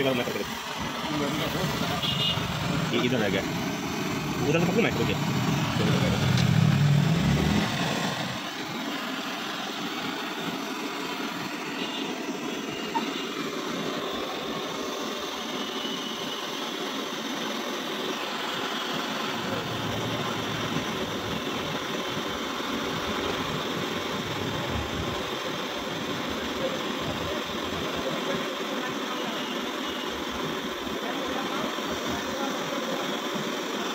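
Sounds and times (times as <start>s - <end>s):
gas torch flame hissing: 0.0s - 33.9s.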